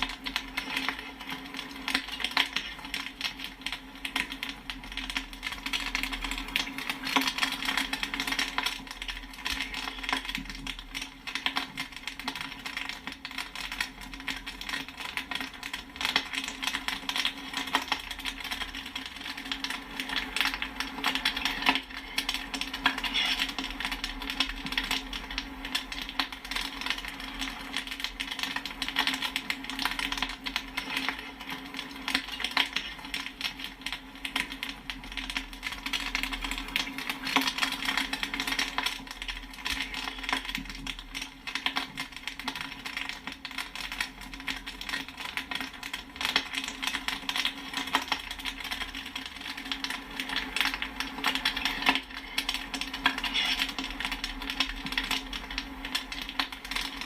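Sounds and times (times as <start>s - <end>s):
popcorn popping: 0.0s - 57.0s.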